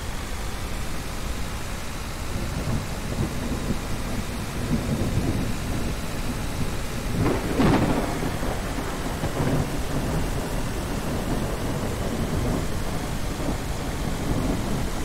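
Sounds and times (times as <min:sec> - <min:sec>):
steady rain hiss: 0:00.0 - 0:15.0
low thunder rumble: 0:02.2 - 0:15.0.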